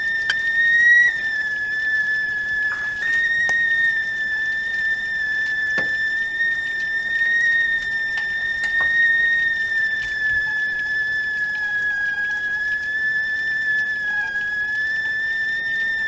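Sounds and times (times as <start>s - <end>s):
tea kettle whistling: 0.0s - 16.0s.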